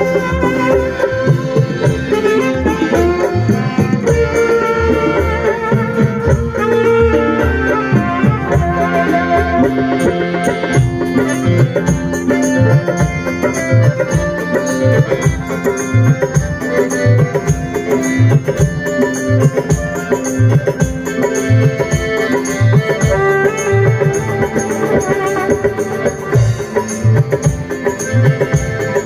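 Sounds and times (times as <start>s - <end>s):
folk music with tabla drumming: 0.0s - 29.0s.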